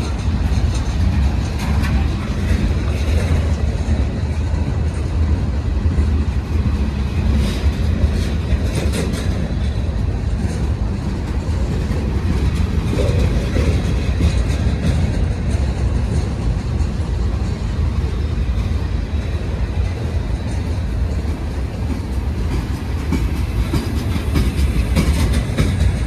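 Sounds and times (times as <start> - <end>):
train rumbling past: 0.0 - 26.0
train wheel clicks: 0.0 - 26.0.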